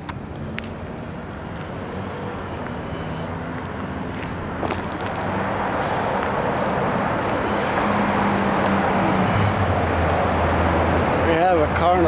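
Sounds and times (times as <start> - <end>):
low engine hum: 0.0 - 12.0
passing vehicles rushing: 0.0 - 12.0.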